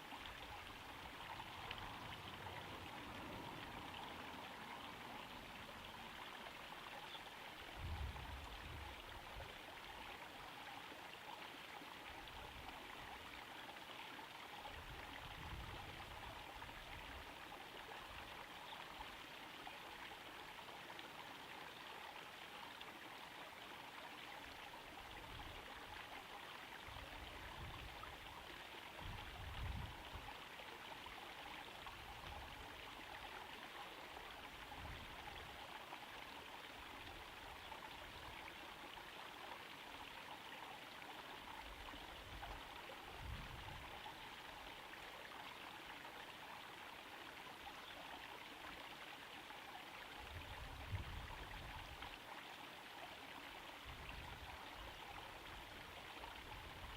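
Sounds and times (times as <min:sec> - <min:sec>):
pond waterfall trickling: 0:00.0 - 0:56.9.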